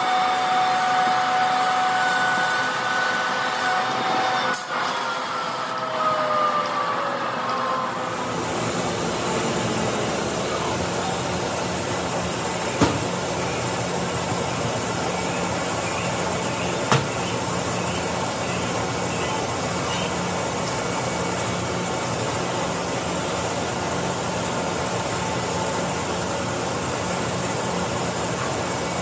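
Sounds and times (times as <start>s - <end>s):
whine spinning down: 0.0s - 27.0s
blower steady rushing noise: 0.0s - 29.0s
steady machine hum: 0.0s - 29.0s.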